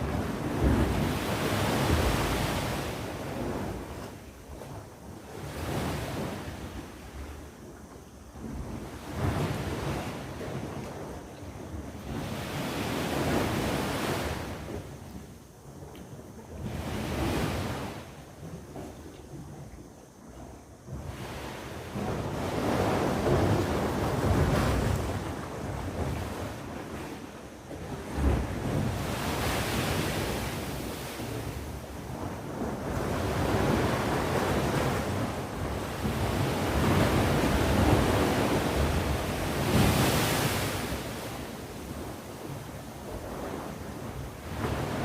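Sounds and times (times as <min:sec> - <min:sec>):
sea waves breaking on shore: 0:00.0 - 0:07.4, 0:08.4 - 0:15.3, 0:16.6 - 0:18.9, 0:20.9 - 0:45.0
wind noise on microphone: 0:00.0 - 0:45.0.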